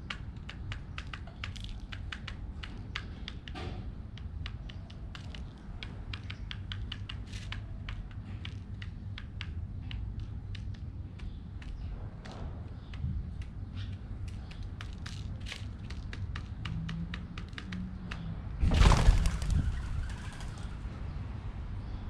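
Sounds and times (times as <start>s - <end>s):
pigeons pecking at seeds: 0.0s - 20.7s.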